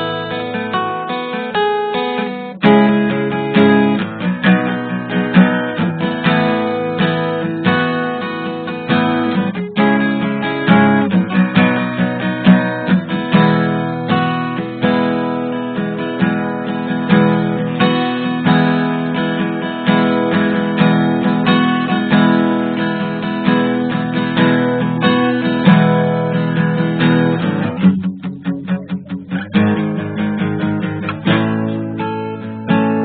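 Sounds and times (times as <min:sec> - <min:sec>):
guitar strumming and picking: 0:00.0 - 0:33.0.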